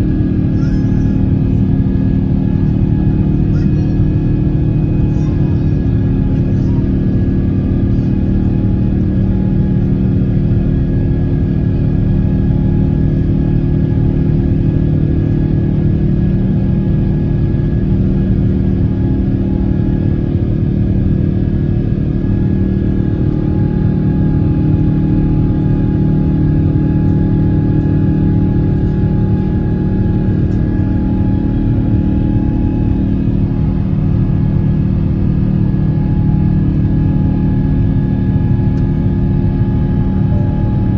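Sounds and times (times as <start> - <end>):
airliner cabin engine hum: 0.0 - 40.9.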